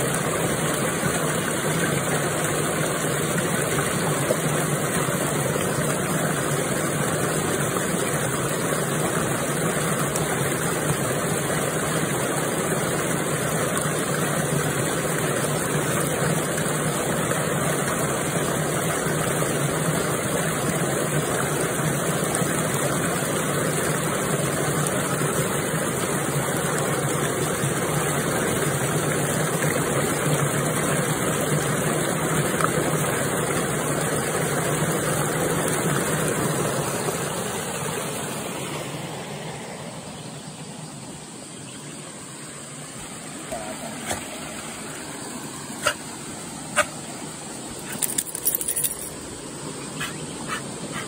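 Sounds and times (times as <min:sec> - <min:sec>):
water gushing in ditch: 0:00.0 - 0:51.0.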